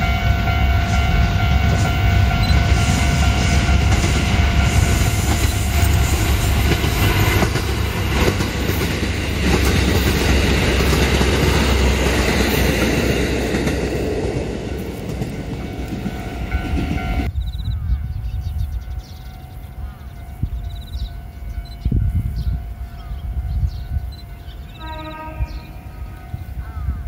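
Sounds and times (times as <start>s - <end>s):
diesel train rumbling past: 0.0s - 27.0s.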